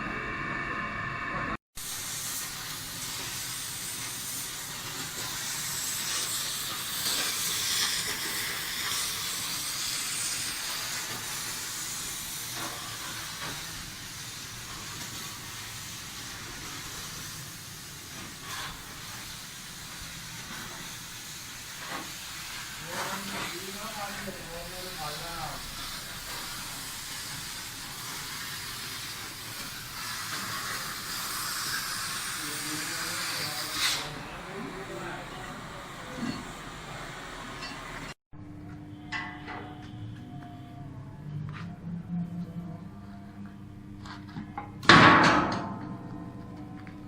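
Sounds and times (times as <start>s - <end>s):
steam hissing: 0.0s - 38.2s.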